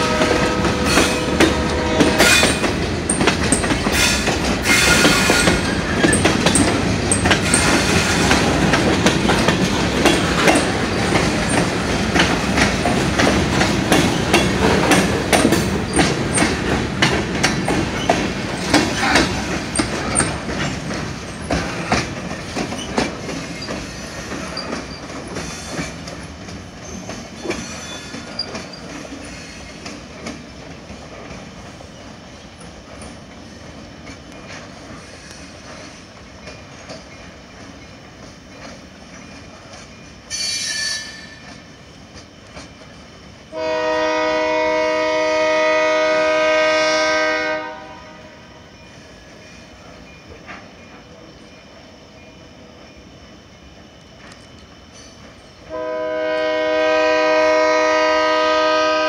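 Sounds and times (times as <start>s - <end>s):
train wheels clicking over rail joints: 0.0s - 44.9s, 48.8s - 51.6s, 54.0s - 55.8s.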